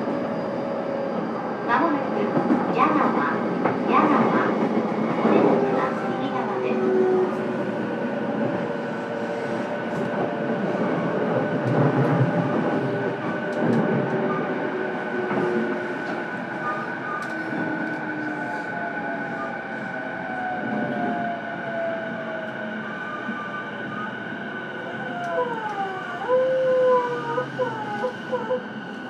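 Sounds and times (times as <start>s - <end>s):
train wheel and rail rumble: 0.0s - 29.0s.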